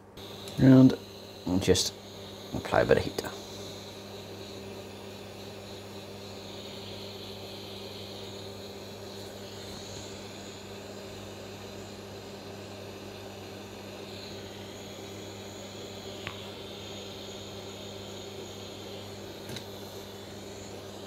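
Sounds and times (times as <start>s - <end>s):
low steady hum: 0.0s - 21.0s
gas hot-air tool hissing: 0.2s - 21.0s.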